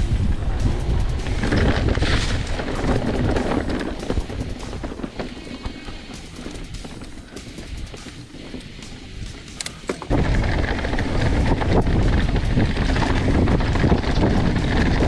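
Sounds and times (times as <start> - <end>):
wind on microphone: 0.0 - 9.4, 10.1 - 15.0
bike rattling: 0.0 - 15.0
bike tyres rolling over dirt: 0.0 - 15.0
sharp clicks: 0.6 - 14.2.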